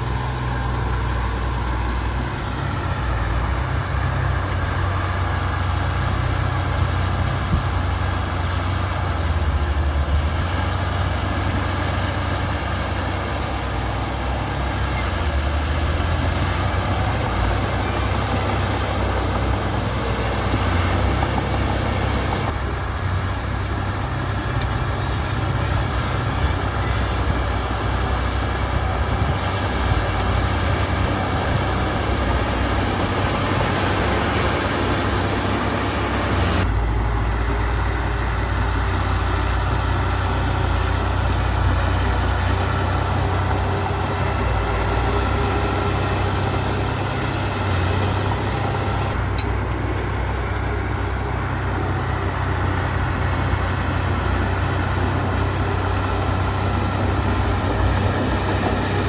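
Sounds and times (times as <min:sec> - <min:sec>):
diesel earthmoving machine rumbling: 0:00.0 - 0:59.0.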